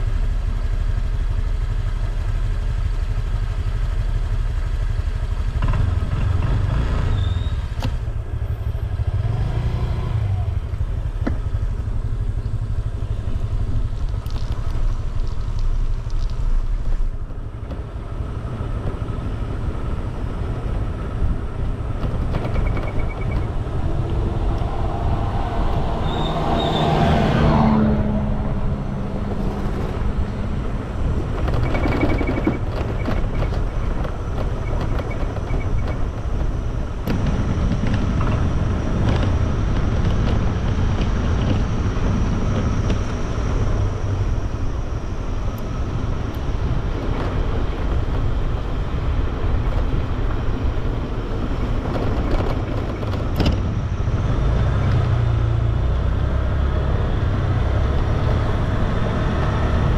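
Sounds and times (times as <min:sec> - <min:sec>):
motor scooter rumbling: 0:00.0 - 0:59.9.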